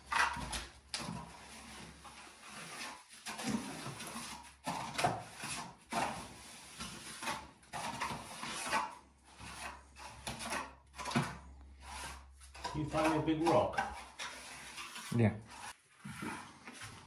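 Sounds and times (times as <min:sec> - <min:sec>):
rough scraping strokes: 0:01.2 - 0:17.0.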